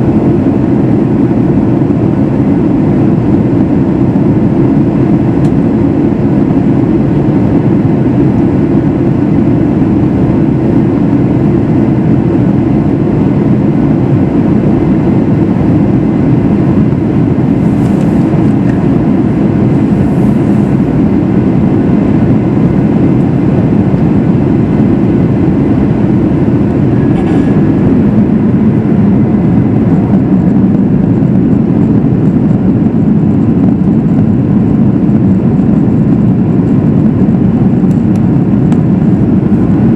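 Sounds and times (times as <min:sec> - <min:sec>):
airflow past fuselage: 0:00.0 - 0:39.9
jet engine hum: 0:00.0 - 0:39.9.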